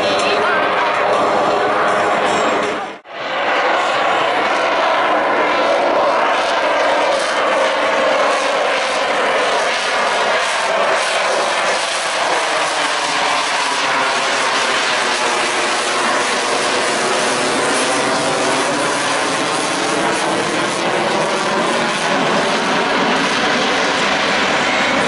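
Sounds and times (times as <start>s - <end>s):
jet flying overhead: 0.0s - 25.0s.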